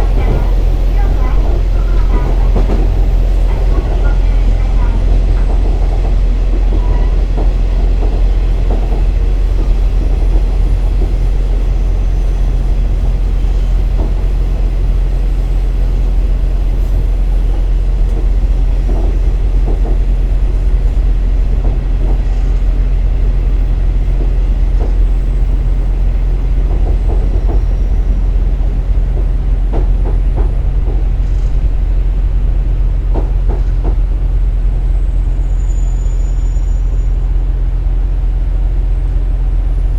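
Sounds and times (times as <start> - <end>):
wheel and rail rumble: 0.0 - 39.9.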